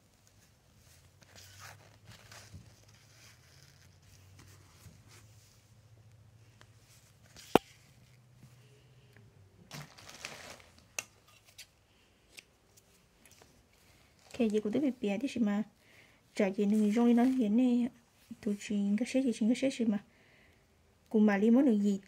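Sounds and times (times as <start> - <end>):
rustling and handling noises: 0.0 - 18.8.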